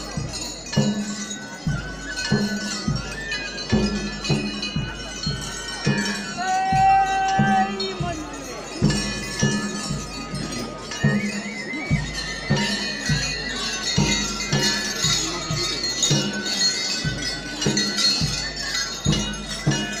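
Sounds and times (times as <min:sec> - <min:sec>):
wavering wind instrument melody: 0:00.0 - 0:20.0.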